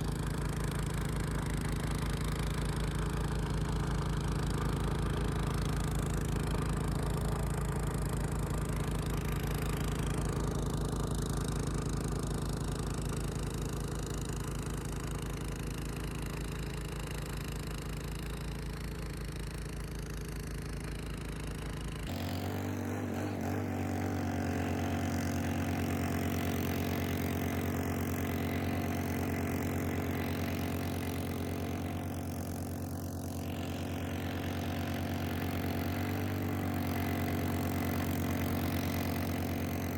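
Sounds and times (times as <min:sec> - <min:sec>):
snow-clearing machine engine running: 0:00.0 - 0:39.9.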